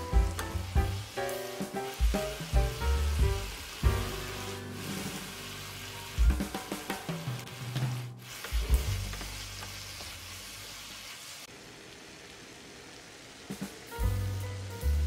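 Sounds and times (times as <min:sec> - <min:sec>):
vegetables sizzling in a frying pan: 0:00.0 - 0:15.0.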